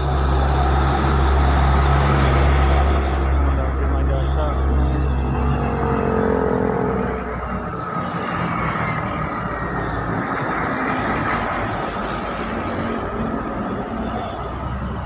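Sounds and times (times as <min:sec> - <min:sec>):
heavy truck engine labouring: 0:00.0 - 0:15.0
road and traffic noise: 0:00.0 - 0:15.0.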